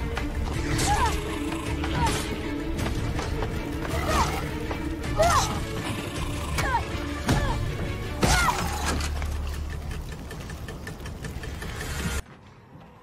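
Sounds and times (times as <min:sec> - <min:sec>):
tense music: 0:00.0 - 0:12.8.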